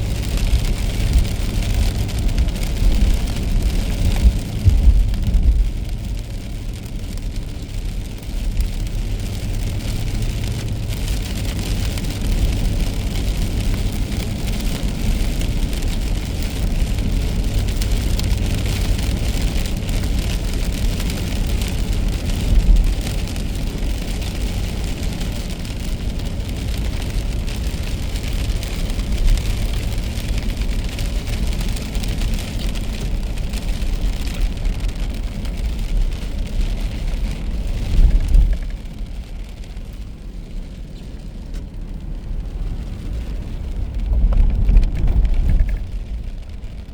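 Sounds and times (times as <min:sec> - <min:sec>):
rain hissing: 0:00.0 - 0:46.9
tyres rumbling on wet road: 0:00.0 - 0:46.9.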